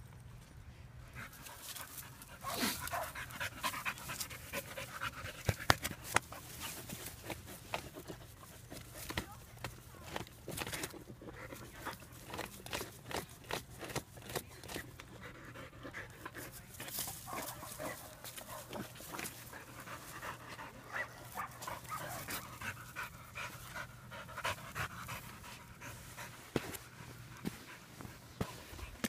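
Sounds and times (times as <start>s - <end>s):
dog panting and sniffing: 1.1s - 29.0s.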